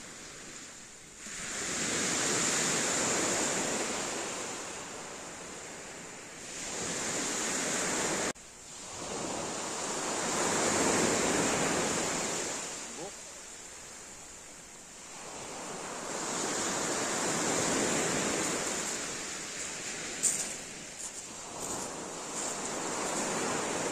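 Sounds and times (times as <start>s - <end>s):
waves breaking on a pebble beach: 0.0s - 23.9s.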